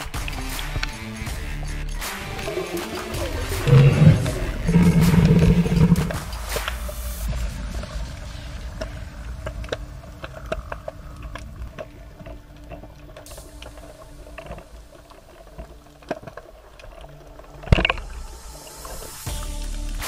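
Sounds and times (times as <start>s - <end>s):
underwater wash: 2.0s - 19.5s
underwater clicks and crackles: 2.1s - 19.2s.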